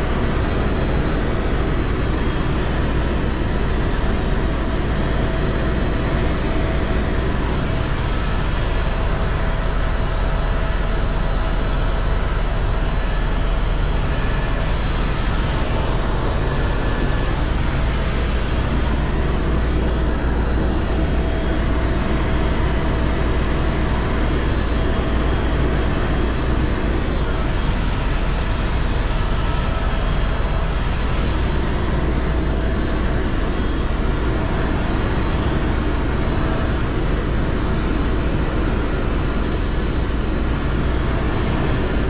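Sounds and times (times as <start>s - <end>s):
helicopter rotor and engine drone: 0.0s - 42.0s.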